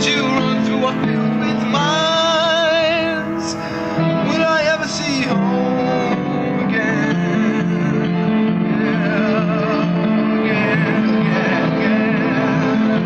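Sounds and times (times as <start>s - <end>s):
guitar chords: 0.0s - 13.0s
person singing: 0.0s - 13.0s.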